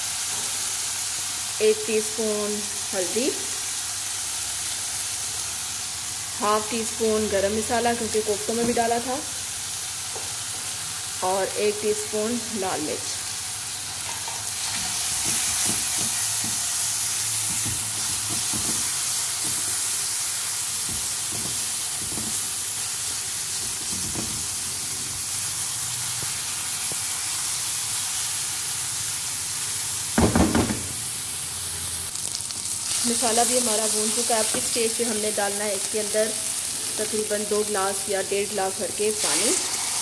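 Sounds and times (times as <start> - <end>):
masala sizzling in oil: 0.0 - 40.0.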